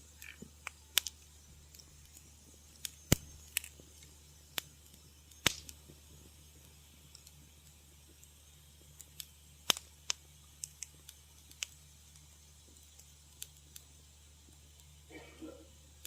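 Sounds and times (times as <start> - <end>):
soft rustle of flame: 0.0 - 16.0
steady low hum: 0.0 - 16.0
wood fire crackling and popping: 0.0 - 16.0.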